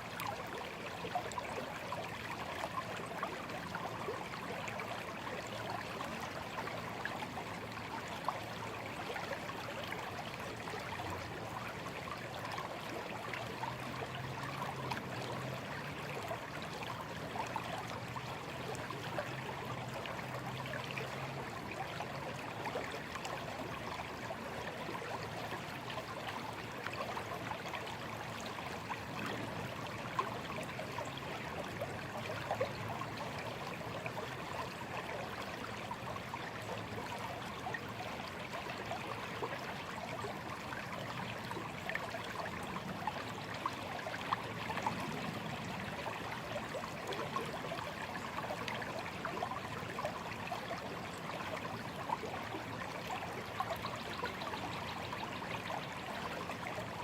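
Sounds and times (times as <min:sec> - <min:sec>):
stream babbling: 0:00.0 - 0:57.0.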